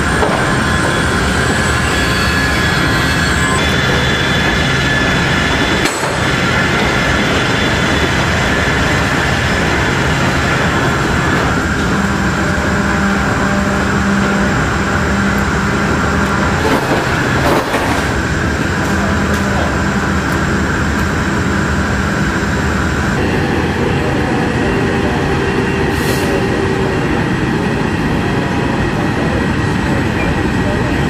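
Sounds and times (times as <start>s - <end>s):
aircraft machinery noise: 0.0s - 31.0s
high whine: 0.0s - 31.0s.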